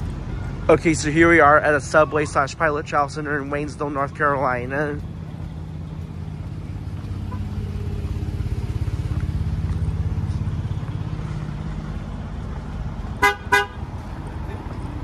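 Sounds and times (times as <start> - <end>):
vehicle engine throbbing: 0.0 - 15.0.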